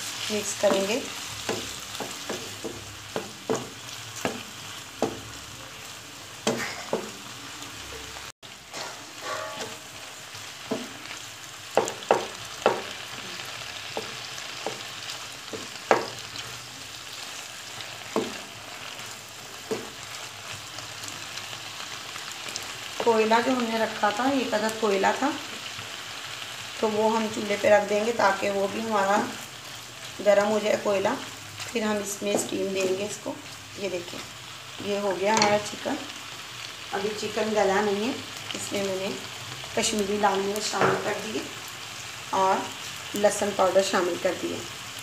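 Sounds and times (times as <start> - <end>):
chicken sizzling in oil: 0.0 - 45.0.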